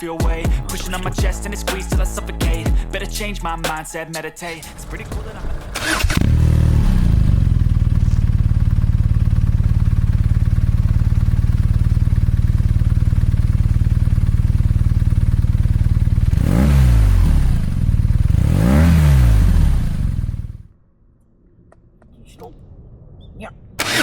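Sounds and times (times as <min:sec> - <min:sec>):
motorcycle engine idling and revving: 0:00.0 - 0:03.8, 0:04.6 - 0:20.7, 0:23.8 - 0:24.0.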